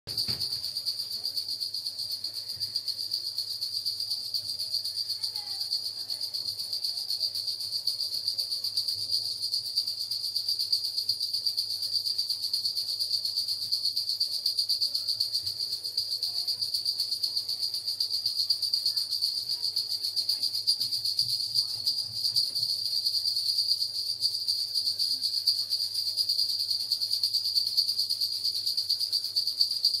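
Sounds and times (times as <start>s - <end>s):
cricket chirring: 0.1s - 30.0s.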